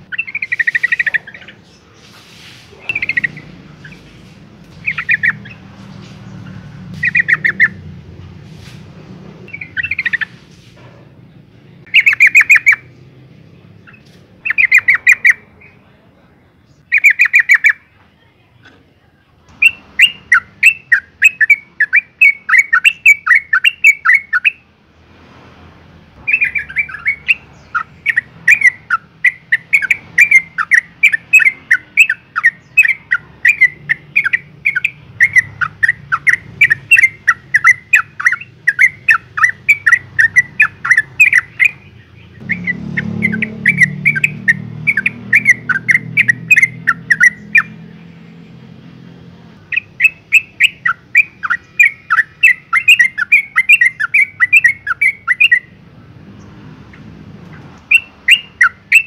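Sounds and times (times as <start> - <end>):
bird sharp chattering calls: 0.0 - 8.8, 9.4 - 10.7, 11.8 - 13.1, 13.8 - 15.9, 16.7 - 17.9, 19.5 - 24.7, 26.2 - 48.1, 49.6 - 59.0.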